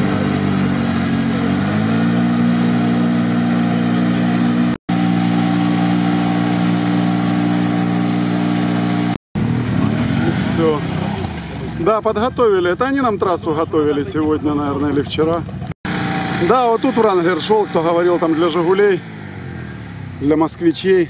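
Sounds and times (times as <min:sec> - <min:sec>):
quad bike engine revving: 0:00.0 - 0:12.4, 0:14.3 - 0:21.0
wheels spinning in deep mud: 0:00.0 - 0:12.4, 0:15.2 - 0:20.9.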